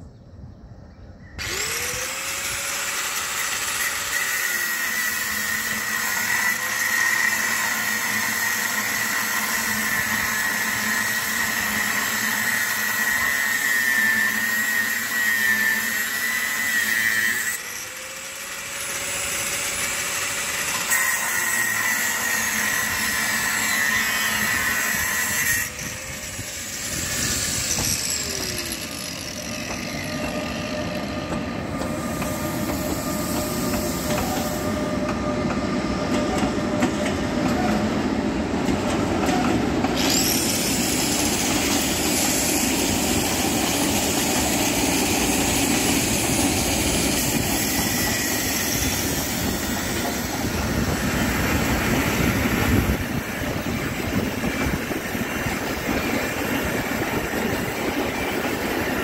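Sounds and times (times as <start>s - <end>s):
electric locomotive whine: 0.0s - 59.0s.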